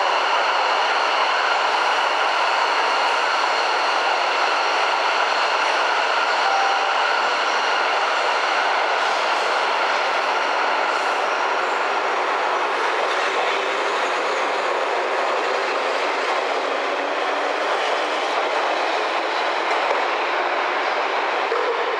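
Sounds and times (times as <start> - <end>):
electric train running: 0.0 - 21.9.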